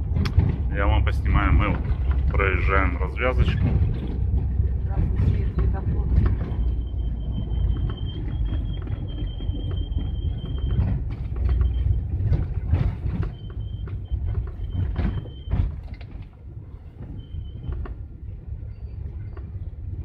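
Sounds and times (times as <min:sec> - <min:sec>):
knocks and rattles: 0:00.0 - 0:18.1
engine and tyre rumble: 0:00.0 - 0:20.0.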